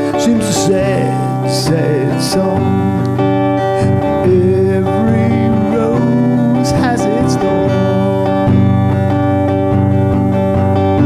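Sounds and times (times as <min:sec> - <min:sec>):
man singing: 0:00.0 - 0:09.0
acoustic guitar strumming: 0:00.0 - 0:11.0
electrical buzz: 0:00.0 - 0:11.0.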